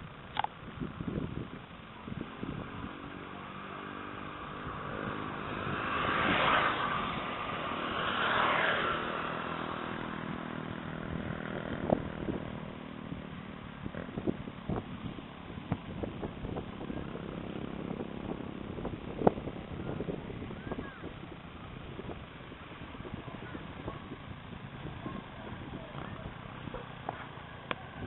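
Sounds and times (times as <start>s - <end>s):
airplane engine droning overhead: 0.0s - 28.0s.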